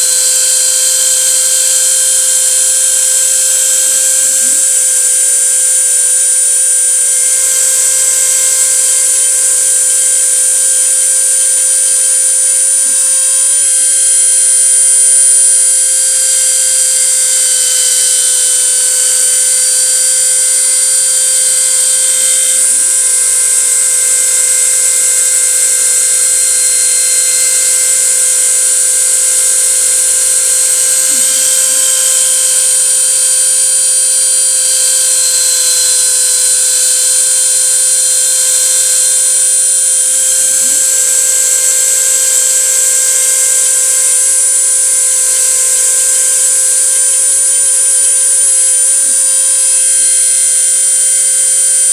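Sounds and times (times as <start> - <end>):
cnc router spindle whine: 0.0 - 51.9.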